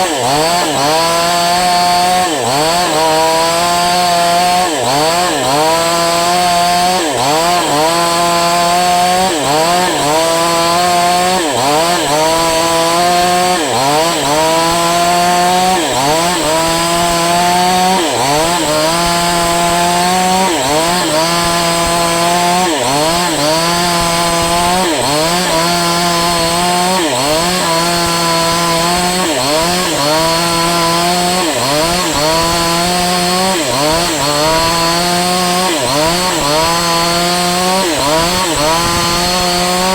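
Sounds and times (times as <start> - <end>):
chainsaw running hard: 0.0 - 39.9.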